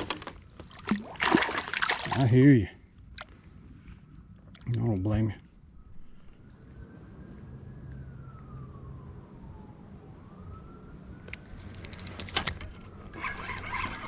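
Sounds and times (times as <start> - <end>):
distant siren wailing: 2.1 - 14.0.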